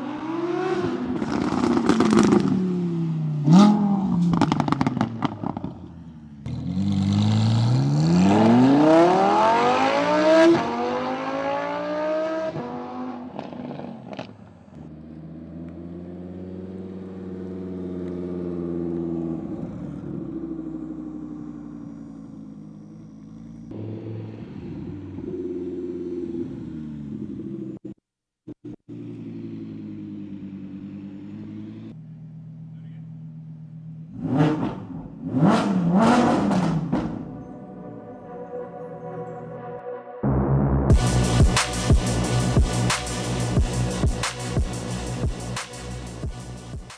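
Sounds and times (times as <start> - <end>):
car engine revving: 0.0 - 28.0, 28.6 - 38.1, 40.2 - 46.9.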